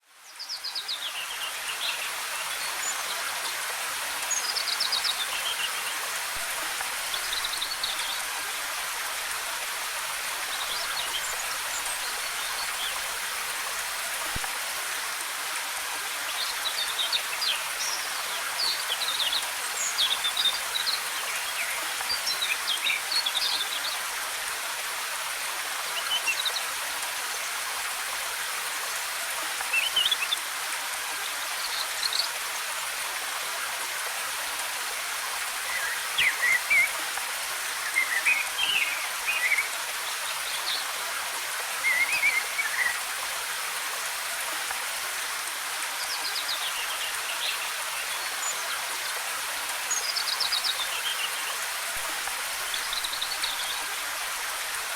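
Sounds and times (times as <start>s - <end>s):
waterfall rushing: 1.1s - 54.9s.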